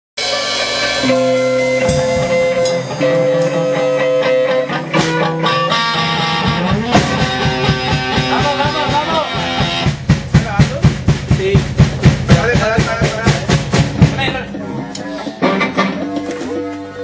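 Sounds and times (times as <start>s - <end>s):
electric guitar chords: 0.2s - 10.4s, 13.5s - 17.0s
drums: 0.2s - 17.0s.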